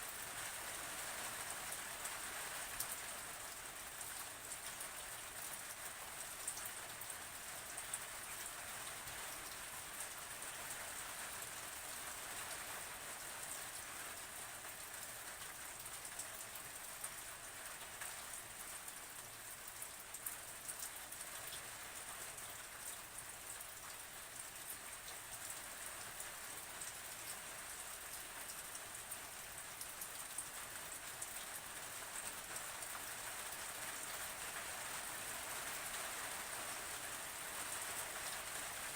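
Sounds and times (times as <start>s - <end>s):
rain falling on a surface: 0.0s - 38.9s.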